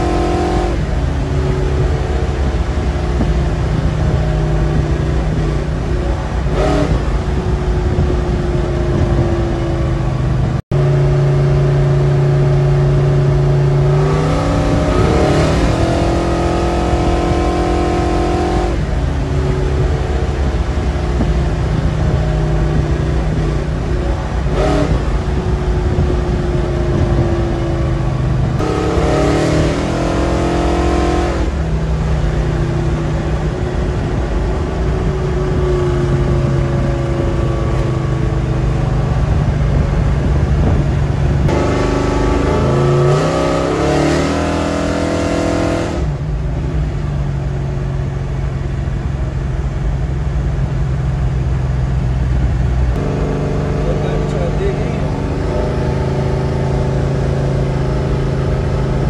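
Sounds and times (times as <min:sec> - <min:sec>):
road noise inside vehicle: 0:00.0 - 0:59.0
vehicle engine accelerating: 0:00.0 - 0:59.0.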